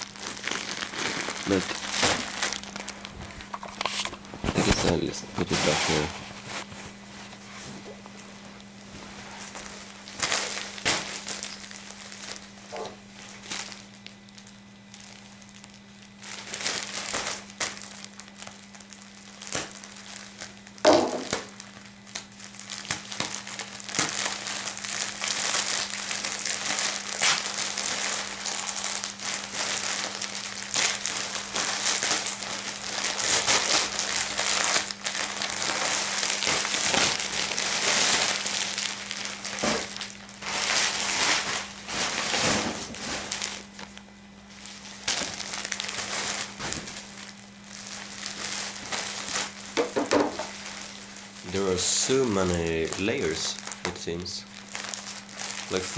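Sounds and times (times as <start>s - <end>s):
plastic bag crinkling: 0.0s - 7.0s, 8.1s - 55.9s.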